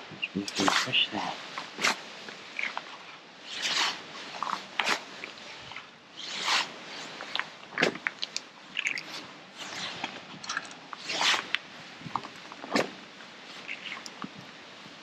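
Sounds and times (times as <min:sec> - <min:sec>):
jacket rustling: 0:00.4 - 0:15.0.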